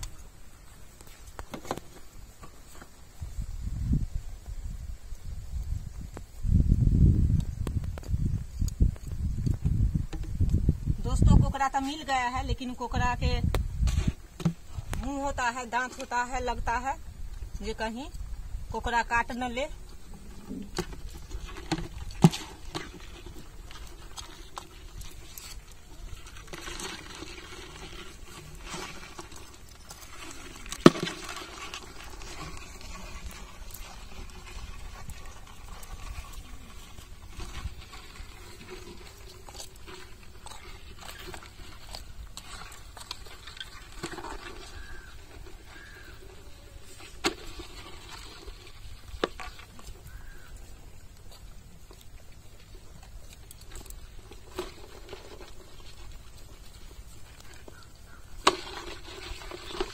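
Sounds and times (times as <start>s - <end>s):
sand pattering: 0.0s - 59.9s
sickle scraping damp sand: 8.1s - 59.9s.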